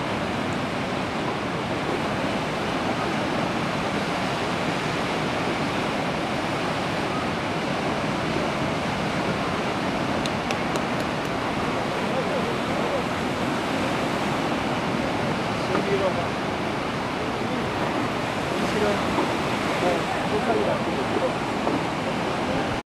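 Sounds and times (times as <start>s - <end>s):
waves breaking on rocky shore: 0.0s - 22.8s.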